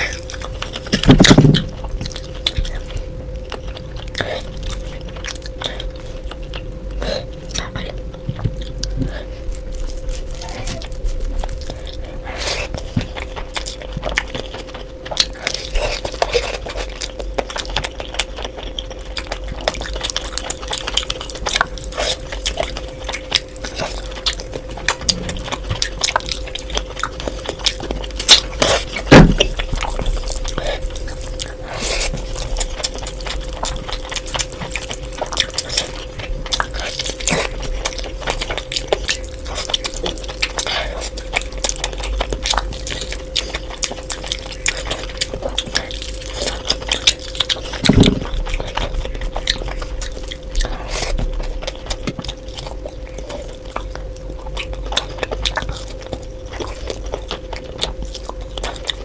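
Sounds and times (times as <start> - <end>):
faint hum: 0.0 - 59.0
person chewing food: 0.0 - 59.0.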